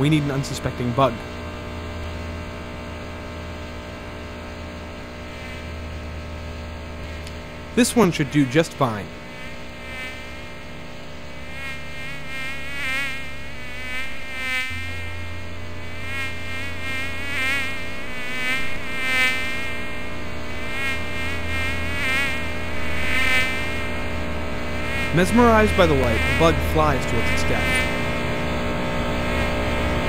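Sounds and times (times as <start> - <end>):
low electrical hum: 0.0 - 30.0
flying insect buzzing: 4.8 - 30.0.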